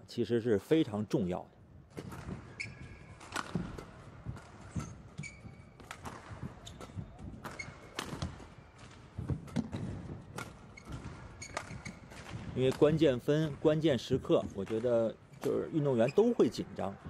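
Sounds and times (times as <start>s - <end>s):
court shoes squeaking: 1.9s - 17.0s.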